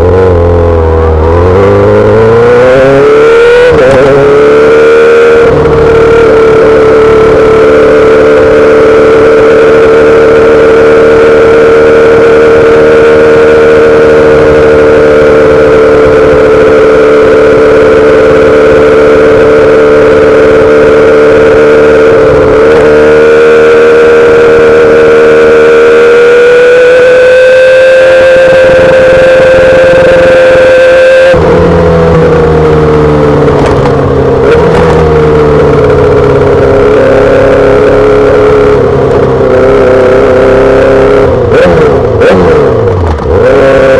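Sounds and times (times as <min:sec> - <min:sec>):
motorcycle engine high-pitched note: 0:00.0 - 0:43.9.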